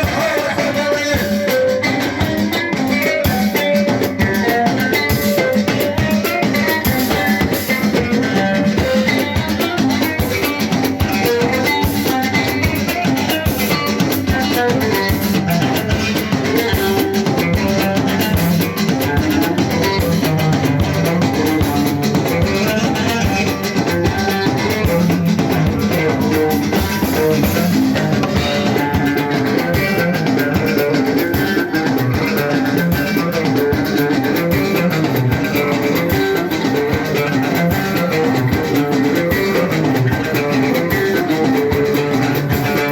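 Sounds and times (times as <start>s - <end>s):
drums: 0.0s - 42.9s
live band music: 0.0s - 42.9s.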